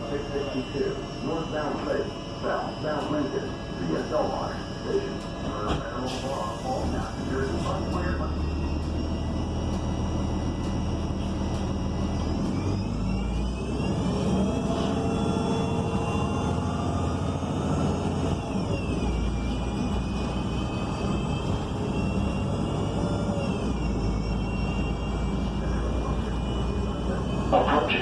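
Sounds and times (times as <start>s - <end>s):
bus drivetrain whine: 0.0s - 28.0s
low engine rumble: 0.0s - 28.0s.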